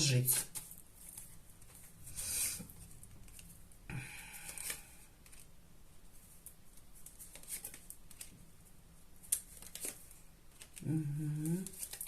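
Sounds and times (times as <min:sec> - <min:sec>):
cards rustling and clicking: 0:00.3 - 0:05.6, 0:06.3 - 0:08.5, 0:09.2 - 0:12.0.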